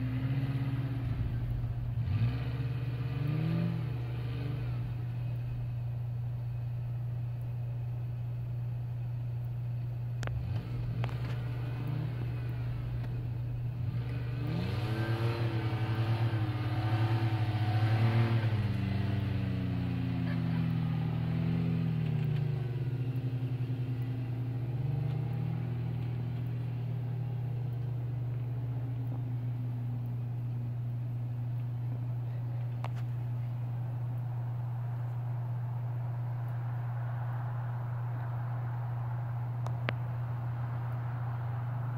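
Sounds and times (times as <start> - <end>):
pickup engine revving: 0.0 - 41.9.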